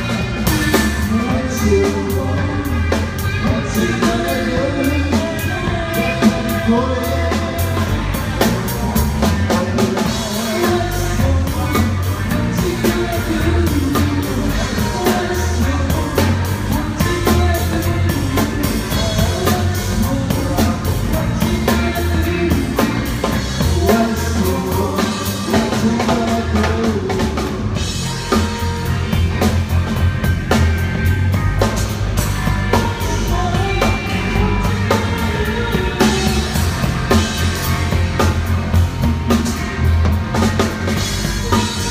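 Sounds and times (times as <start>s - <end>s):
drum kit beat: 0.0s - 41.9s
rock band playing live: 0.0s - 41.9s.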